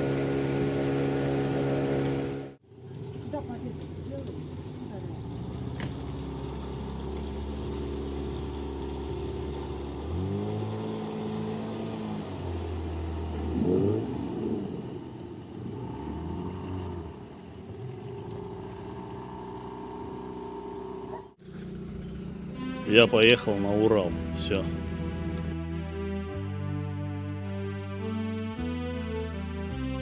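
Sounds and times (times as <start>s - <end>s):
outboard motor running: 0.0s - 25.6s.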